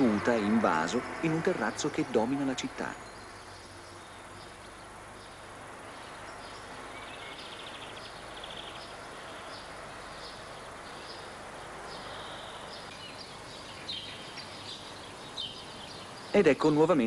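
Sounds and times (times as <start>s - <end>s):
distant city noise hiss: 0.0s - 17.0s.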